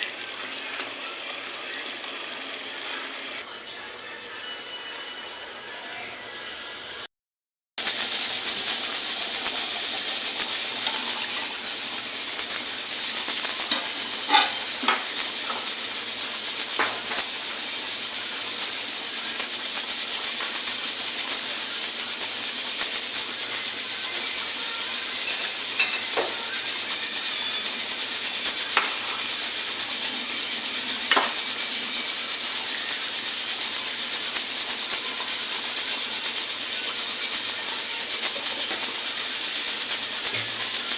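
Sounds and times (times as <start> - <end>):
food sizzling in hot oil: 0.0 - 5.7, 7.8 - 40.9.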